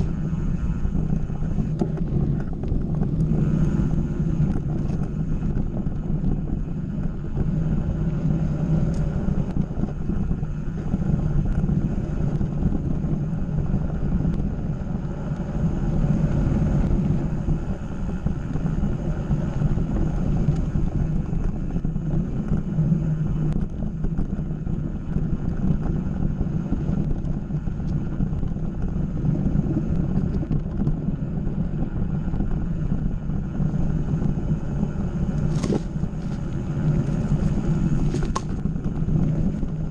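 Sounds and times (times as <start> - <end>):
bike tyres rolling over dirt: 0.0 - 39.9
wind buffeting microphone: 0.0 - 39.9.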